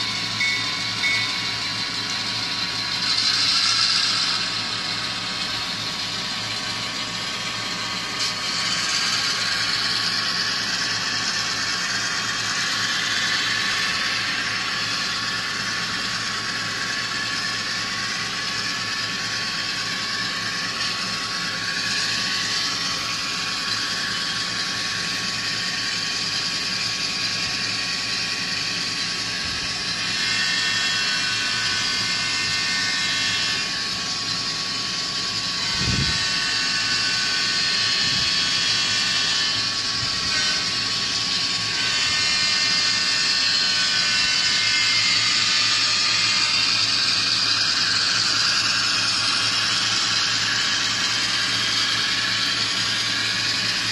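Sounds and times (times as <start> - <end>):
model locomotive diesel engine sound: 0.0 - 53.9.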